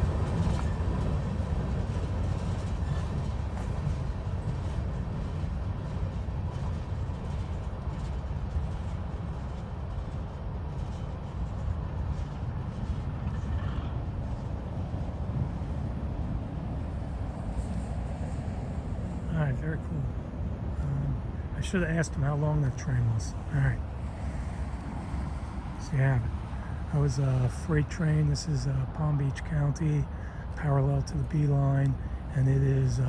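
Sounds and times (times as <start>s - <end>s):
freight train rolling on track: 0.0s - 33.0s.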